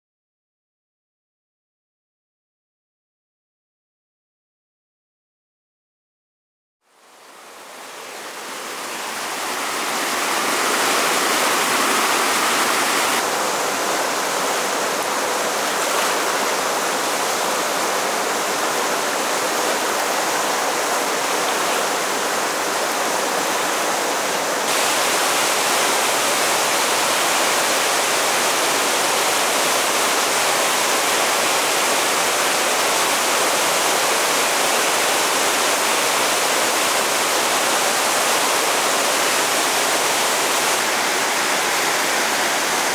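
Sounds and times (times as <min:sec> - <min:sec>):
river rushing over rocks: 0:07.2 - 0:42.9.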